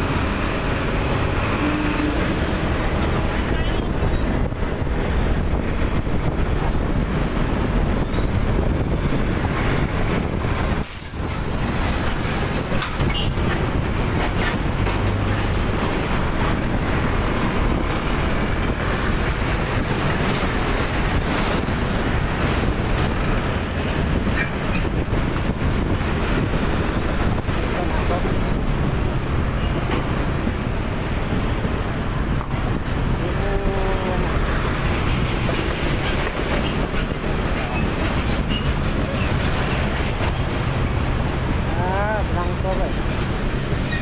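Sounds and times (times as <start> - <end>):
engine and tyre rumble: 0.0 - 44.0
road noise: 0.0 - 44.0
wind buffeting microphone: 0.3 - 44.0.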